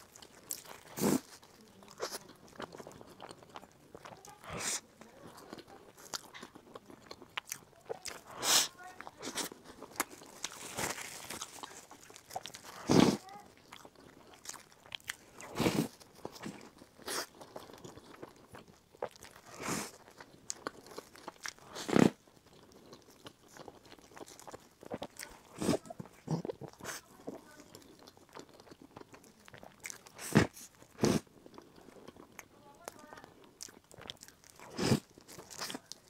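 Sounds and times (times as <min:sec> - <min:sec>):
crunchy bites and chewing: 0:00.0 - 0:36.0.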